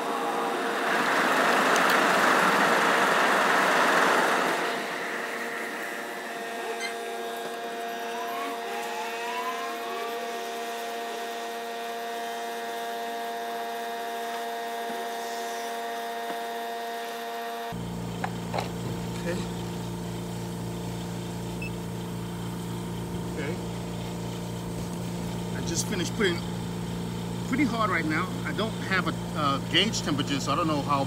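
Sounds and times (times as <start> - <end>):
air compressor humming: 0.0 - 31.0.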